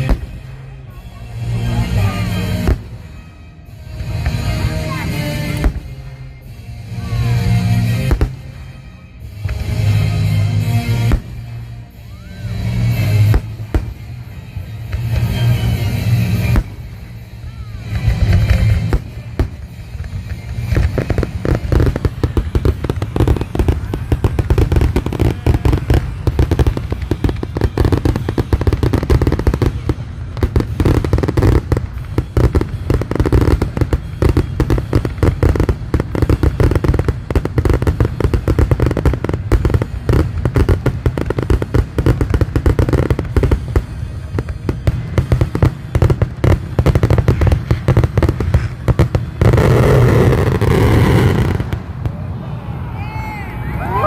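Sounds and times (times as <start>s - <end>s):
rapid fireworks bangs: 0.0s - 52.3s.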